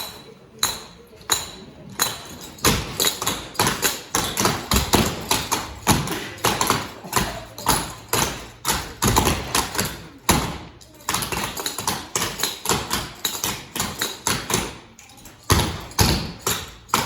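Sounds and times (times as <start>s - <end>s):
rhythmic thumps and taps: 0.6s - 17.0s.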